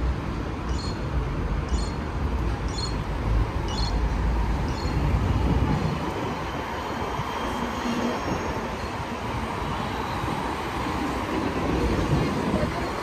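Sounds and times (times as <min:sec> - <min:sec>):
heavy traffic rumble: 0:00.0 - 0:13.0.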